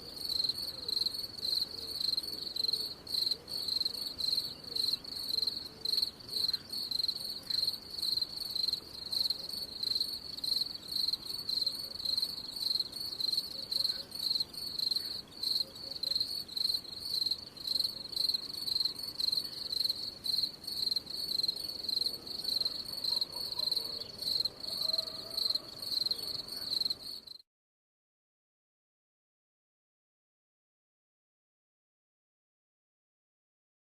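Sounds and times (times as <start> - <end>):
cricket chirping: 0.0 - 27.4.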